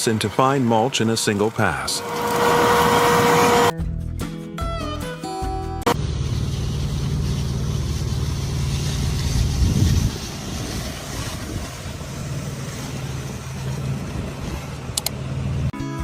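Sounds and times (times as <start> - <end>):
heavy engine running: 0.0 - 3.7, 5.8 - 15.8.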